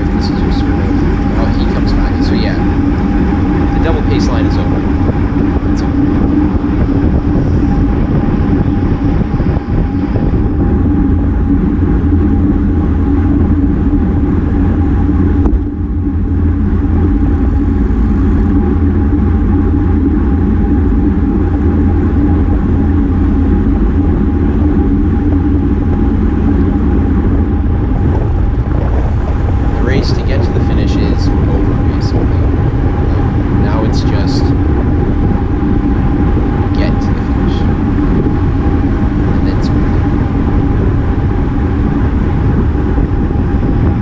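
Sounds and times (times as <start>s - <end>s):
steady hum: 0.0s - 44.0s
wind rumble on microphone: 0.0s - 44.0s.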